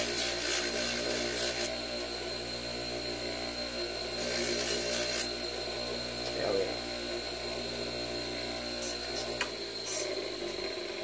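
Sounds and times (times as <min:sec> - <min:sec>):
power tool motor hum: 0:00.0 - 0:11.0.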